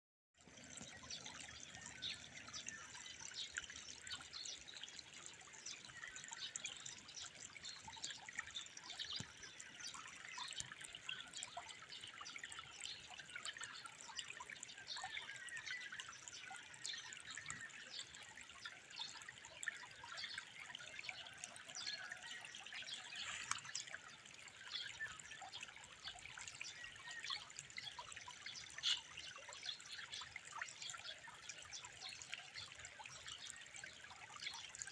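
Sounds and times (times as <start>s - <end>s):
faint trickling water: 0.4s - 34.9s.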